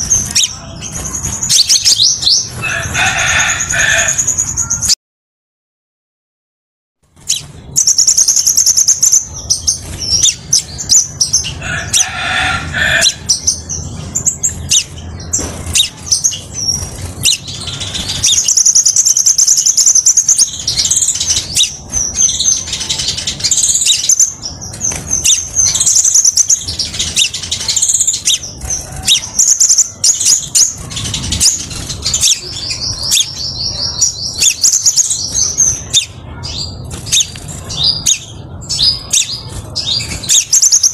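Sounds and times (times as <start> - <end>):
bird chirps and trills: 0.0 - 5.0, 7.2 - 40.9.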